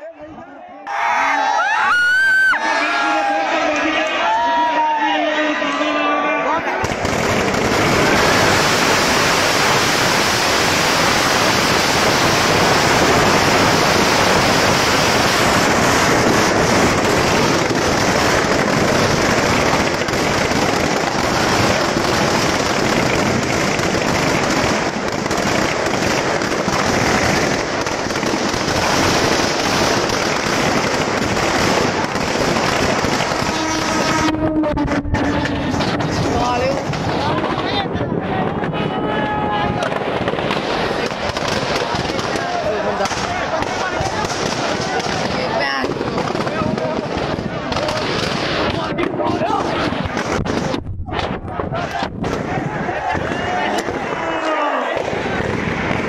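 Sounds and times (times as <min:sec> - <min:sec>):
firecrackers crackling: 0:06.6 - 0:56.0.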